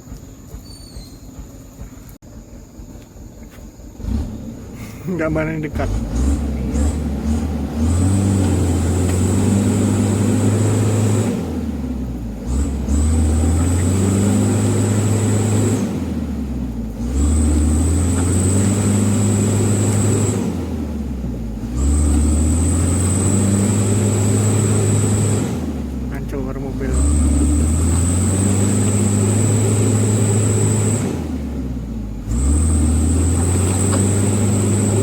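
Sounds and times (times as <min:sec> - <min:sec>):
diesel truck engine revving: 0:00.0 - 0:35.0.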